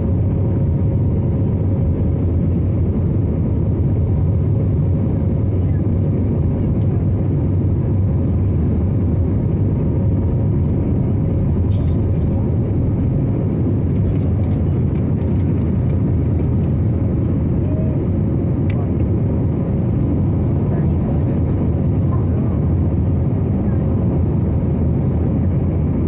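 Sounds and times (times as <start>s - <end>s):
jet airliner low rumble: 0.0s - 26.0s.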